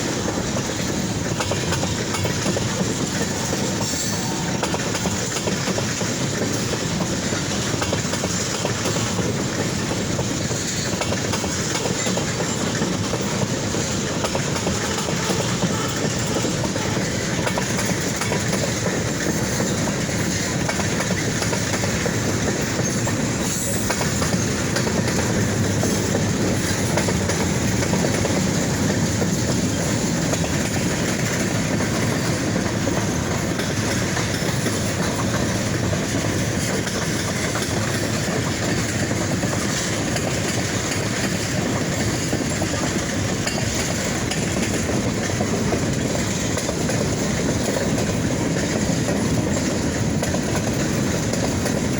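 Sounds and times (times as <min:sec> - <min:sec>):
train wheels clattering on rails: 0:00.0 - 0:51.9.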